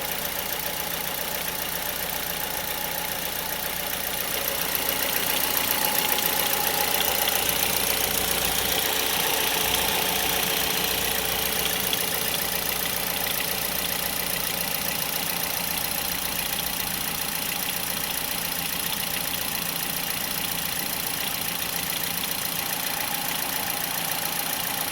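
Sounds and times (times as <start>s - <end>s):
car engine idling: 0.0s - 24.9s
rapid engine knocking: 0.0s - 24.9s.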